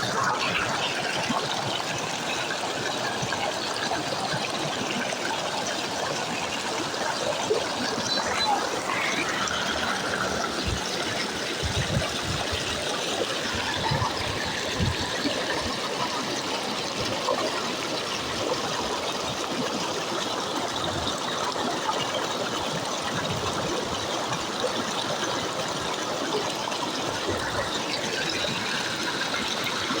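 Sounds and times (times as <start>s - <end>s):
floodwater flowing: 0.0s - 30.0s.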